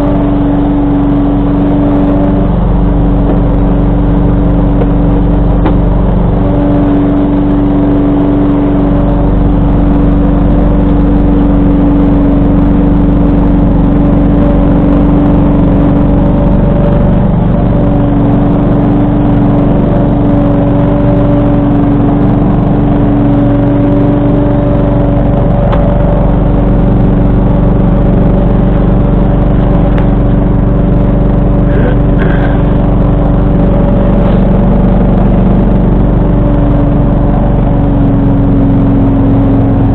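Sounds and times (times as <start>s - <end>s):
lawn tractor engine running: 0.0s - 39.9s
steady whine: 0.0s - 39.9s.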